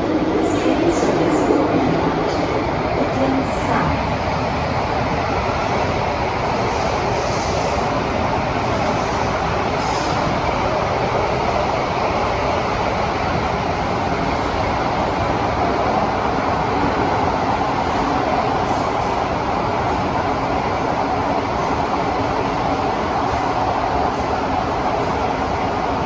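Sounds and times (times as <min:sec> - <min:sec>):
metro train running noise: 0:00.0 - 0:26.0.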